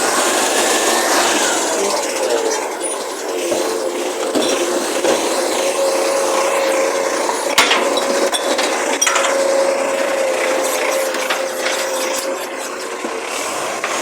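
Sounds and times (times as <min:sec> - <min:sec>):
truck whining and clattering: 0:00.0 - 0:14.0.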